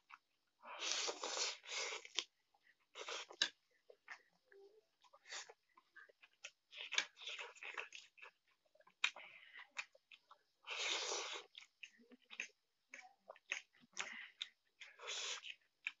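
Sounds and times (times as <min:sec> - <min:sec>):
wet chewing and lip smacks: 0:00.0 - 0:04.3, 0:05.0 - 0:16.0.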